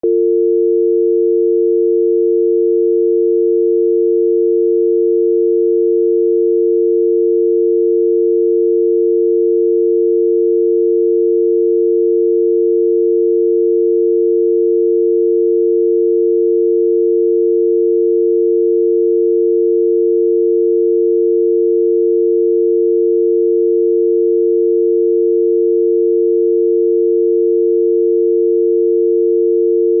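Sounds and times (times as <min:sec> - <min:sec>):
telephone dial tone: 0:00.0 - 0:30.0.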